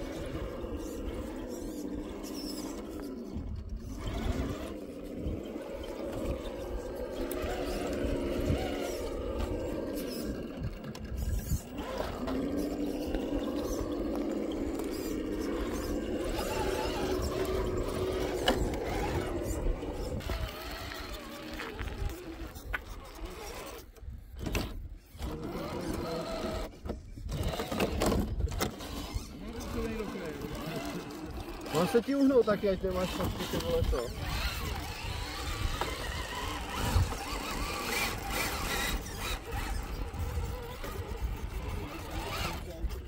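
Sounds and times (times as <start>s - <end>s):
electric motor and gearbox whining: 0.0s - 43.0s.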